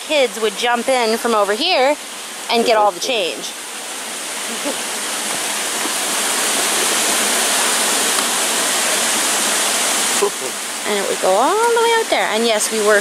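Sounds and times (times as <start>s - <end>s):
water rushing down chute: 0.0s - 13.0s.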